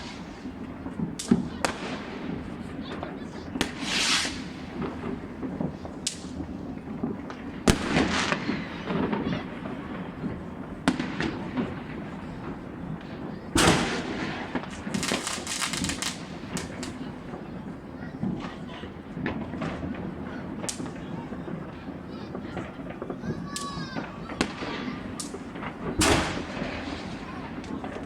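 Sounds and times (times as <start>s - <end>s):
crackling firework pops: 0.0s - 28.0s
distant fireworks rumble: 0.0s - 28.0s
firework bangs: 0.0s - 28.0s.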